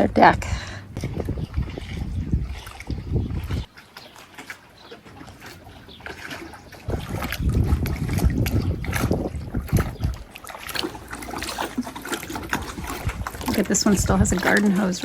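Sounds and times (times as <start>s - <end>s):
wind buffeting microphone: 0.0s - 3.8s, 4.8s - 15.0s
paddle strokes splashing water: 0.0s - 15.0s.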